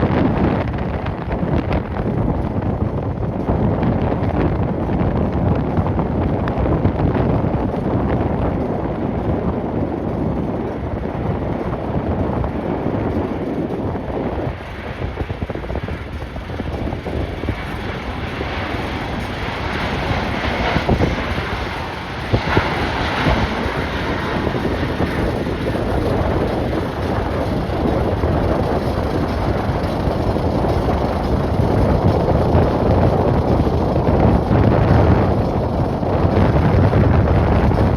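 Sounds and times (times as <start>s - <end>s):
jet airliner engine noise: 0.0s - 37.9s
wind buffeting microphone: 0.0s - 37.9s.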